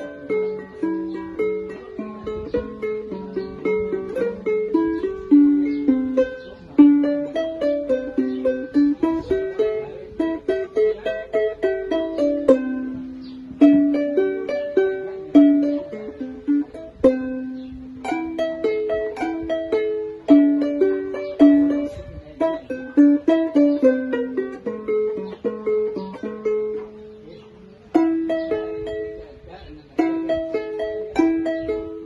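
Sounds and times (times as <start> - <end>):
harp plucked melody: 0.0 - 32.0.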